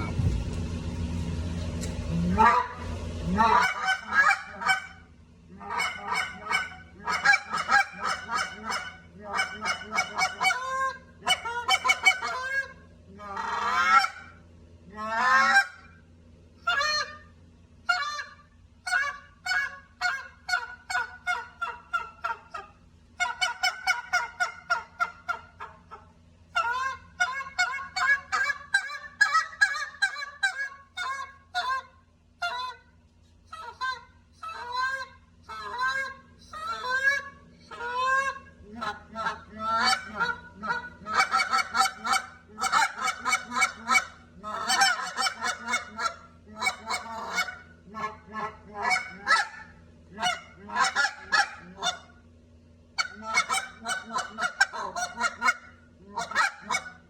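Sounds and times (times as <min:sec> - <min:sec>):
goose call honks and clucks: 0:02.0 - 0:16.0, 0:16.6 - 0:52.2, 0:52.9 - 0:57.0.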